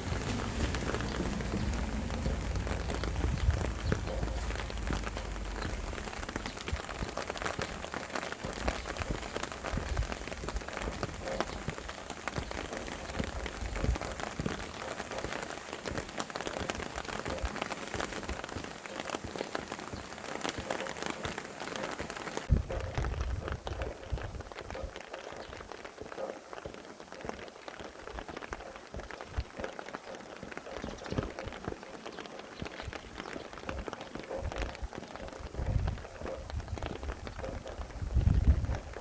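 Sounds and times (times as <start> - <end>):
low wind gusts: 0.0 - 26.2, 28.0 - 39.0
rain drops hitting a surface: 0.0 - 39.0.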